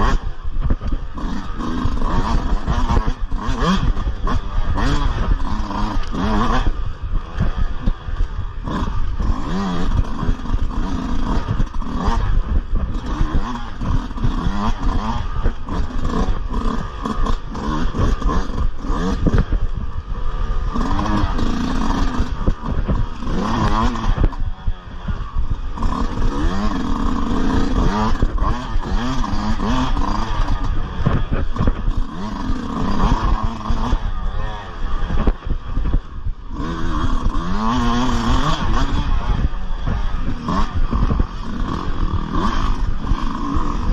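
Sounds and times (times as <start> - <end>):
bike rattling and knocking: 0.0 - 43.9
dirt bike engine revving: 0.0 - 43.9.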